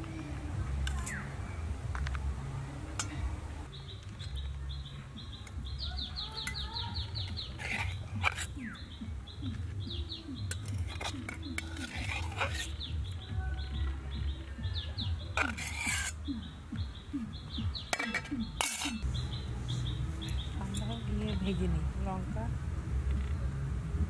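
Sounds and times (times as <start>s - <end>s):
small birds chirping: 0.0s - 22.5s.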